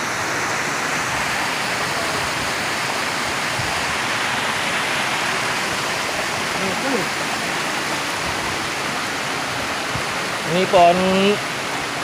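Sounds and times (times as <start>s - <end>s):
stream rushing over boulders: 0.0s - 12.0s.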